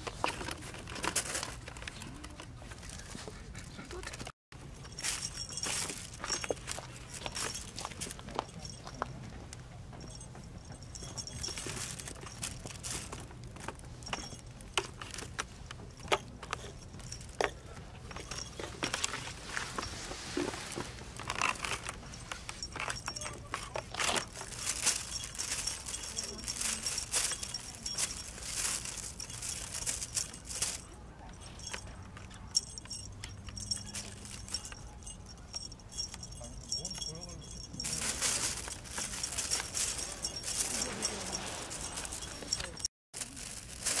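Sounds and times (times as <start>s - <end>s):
paper crinkling and rustling: 0.0s - 8.8s, 11.0s - 31.8s, 37.4s - 44.0s.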